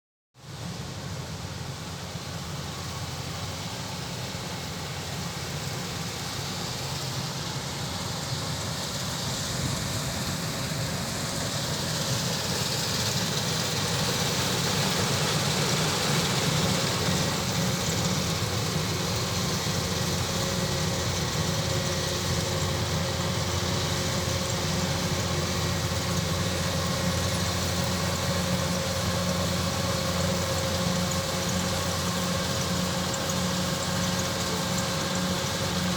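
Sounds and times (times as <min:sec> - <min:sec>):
combine harvester running: 0:00.4 - 0:35.9.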